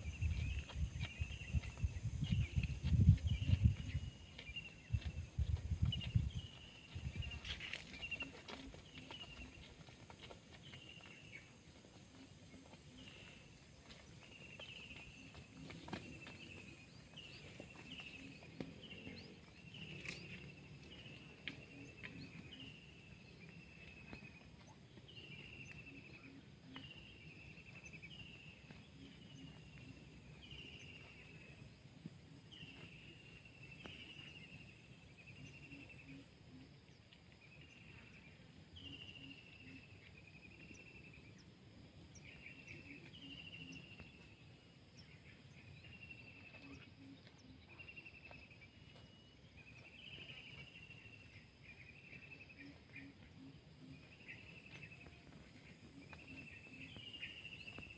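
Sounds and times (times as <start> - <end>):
soft countryside background: 0.0 - 57.9.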